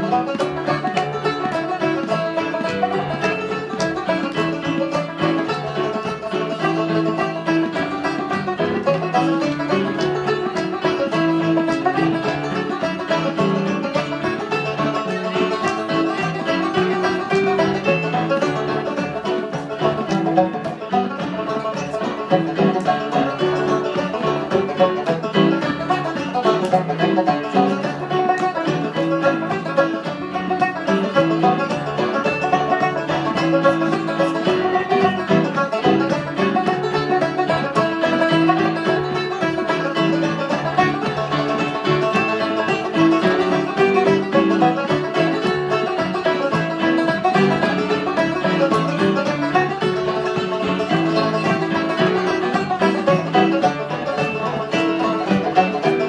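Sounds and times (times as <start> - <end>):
banjos picking: 0.0 - 56.0.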